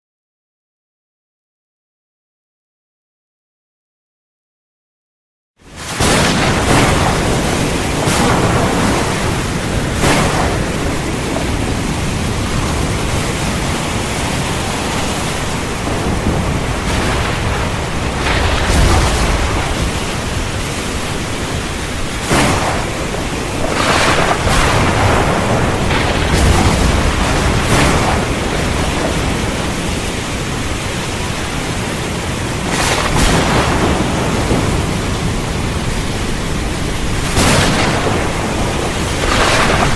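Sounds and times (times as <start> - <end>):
heavy rain falling: 5.6 - 39.9
low thunder rumbles: 5.8 - 39.9
thunder cracks: 5.8 - 39.9.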